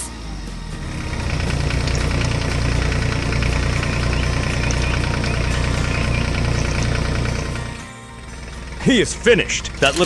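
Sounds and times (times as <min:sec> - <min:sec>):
tractor engine chugging: 0:00.0 - 0:10.0.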